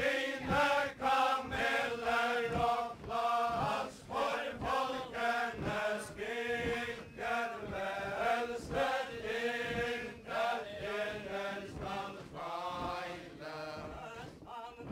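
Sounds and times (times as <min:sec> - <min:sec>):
dance step thumps: 0:00.0 - 0:14.9.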